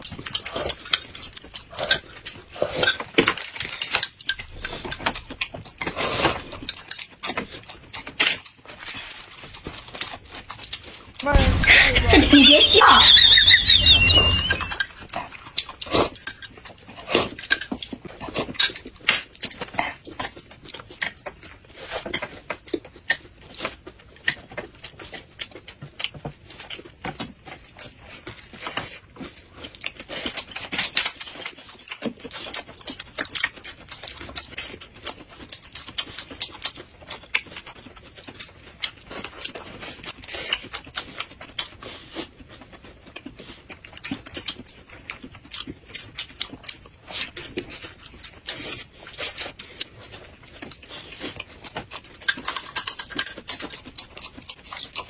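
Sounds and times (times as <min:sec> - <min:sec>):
people chewing crisp lettuce: 0:00.0 - 0:55.0.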